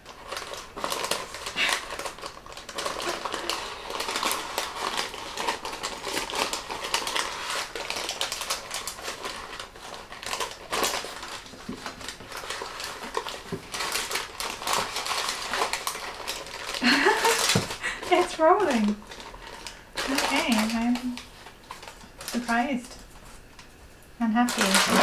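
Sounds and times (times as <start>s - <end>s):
baking parchment crinkling: 0.0s - 25.0s.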